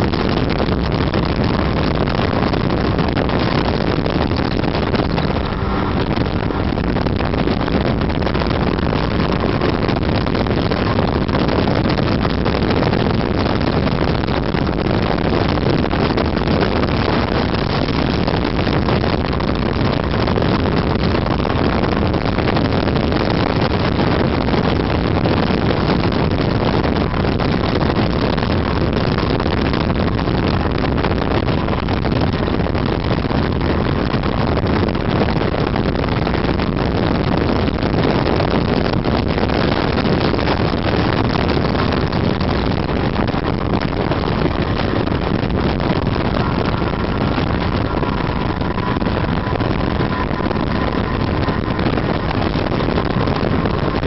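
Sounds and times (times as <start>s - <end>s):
snowmobile engine and track: 0.0s - 54.0s
wind buffeting microphone: 0.0s - 54.0s.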